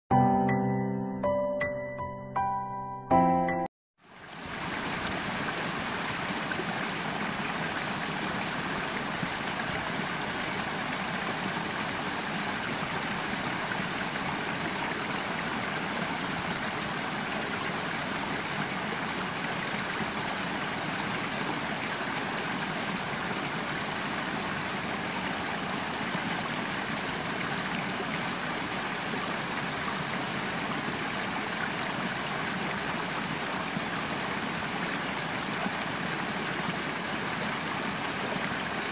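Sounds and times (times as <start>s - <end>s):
creek water rushing and splashing: 4.0s - 38.9s.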